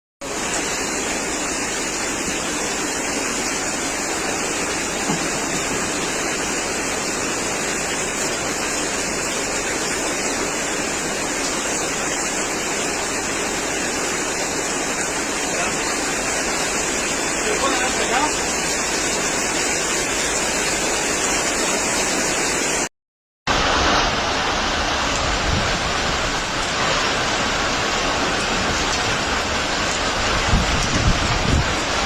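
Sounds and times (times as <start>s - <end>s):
heavy rain pouring: 0.2s - 22.9s, 23.5s - 32.0s.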